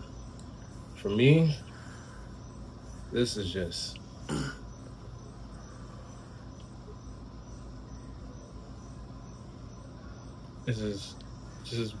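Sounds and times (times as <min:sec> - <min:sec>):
faint high steady tone: 0:00.0 - 0:12.0.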